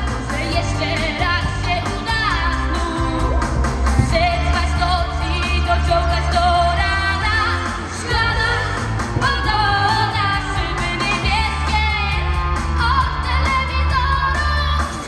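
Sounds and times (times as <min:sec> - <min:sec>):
pop backing music with bass beat: 0:00.0 - 0:15.0
woman singing into microphone: 0:00.0 - 0:15.0.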